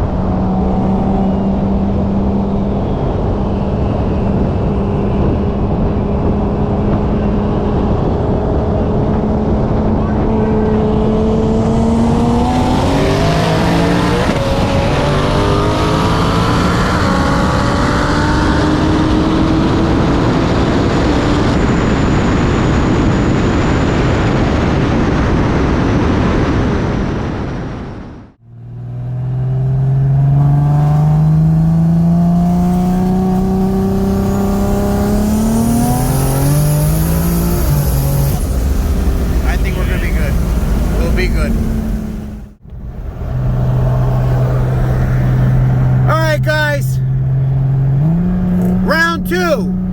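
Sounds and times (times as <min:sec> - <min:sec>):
race car engines at full throttle: 0:00.0 - 0:49.9.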